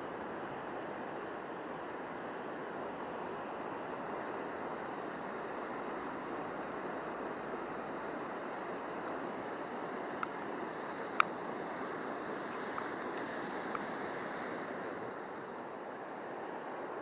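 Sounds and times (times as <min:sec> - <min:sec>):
river water over rapids: 0:00.0 - 0:17.0.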